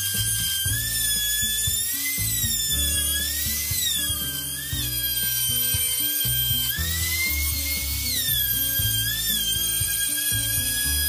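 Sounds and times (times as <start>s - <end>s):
background music: 0.0s - 11.0s
router whining cutting plywood: 0.0s - 11.0s.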